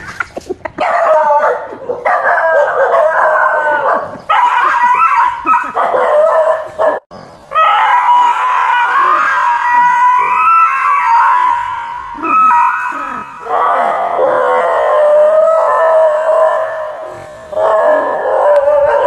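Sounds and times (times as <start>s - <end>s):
dogs howling and whining: 0.8s - 19.0s.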